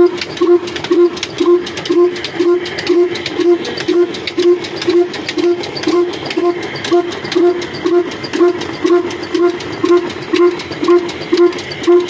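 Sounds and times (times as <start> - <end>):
diesel engine knocking slowly: 0.0 - 12.0.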